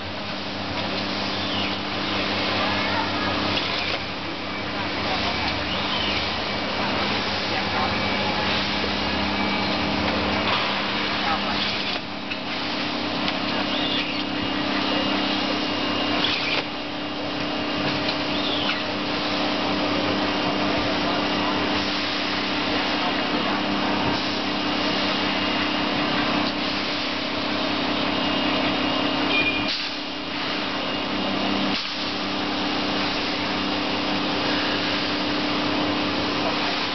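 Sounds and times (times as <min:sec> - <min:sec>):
vacuum pump hum: 0:00.0 - 0:36.9.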